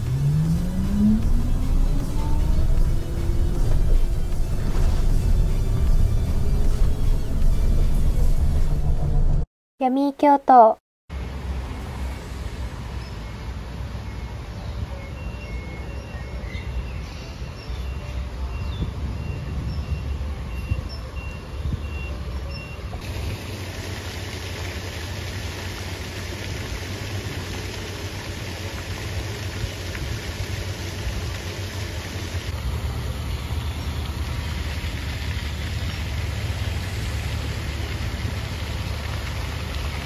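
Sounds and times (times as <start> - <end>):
distant traffic: 0.0 - 40.0.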